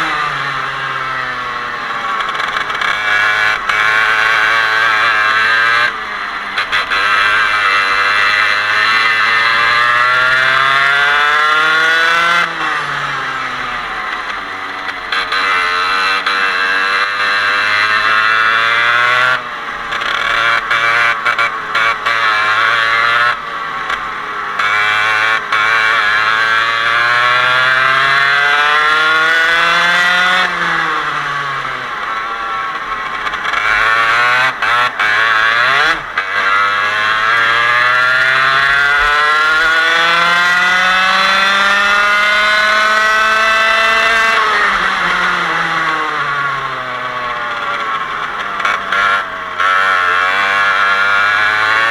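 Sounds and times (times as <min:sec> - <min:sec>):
kart engine revving: 0:00.0 - 0:51.9.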